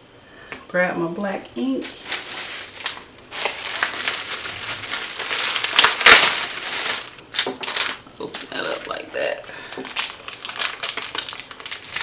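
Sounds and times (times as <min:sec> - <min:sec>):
packaging crinkling and rustling: 0:01.8 - 0:12.0.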